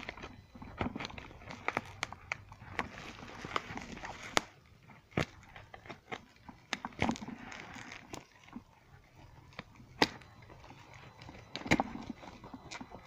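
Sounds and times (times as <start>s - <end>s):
plastic bag and bubble wrap crinkling: 0.0s - 13.0s.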